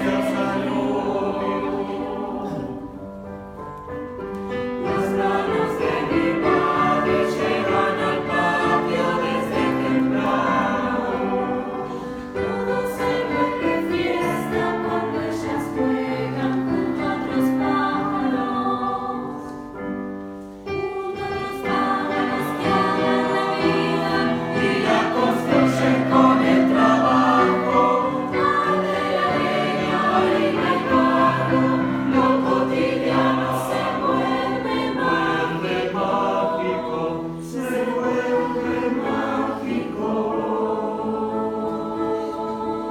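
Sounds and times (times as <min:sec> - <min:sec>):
youth choir singing in parts: 0:00.0 - 0:03.2, 0:04.5 - 0:19.9, 0:20.7 - 0:42.9.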